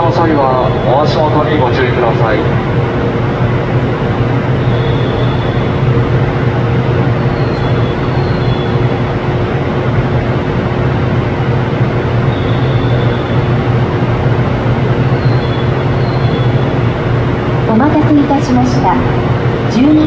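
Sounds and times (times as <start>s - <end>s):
low hum: 0.0s - 20.0s
train rushing noise: 0.0s - 20.0s.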